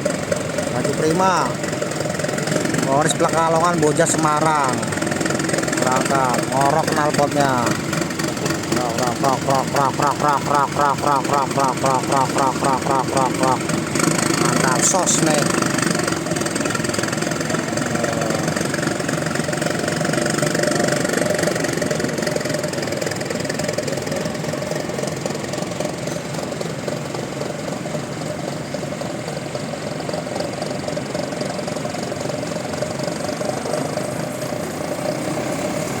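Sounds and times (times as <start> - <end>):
bus engine rumbling exhaust: 0.0 - 36.0.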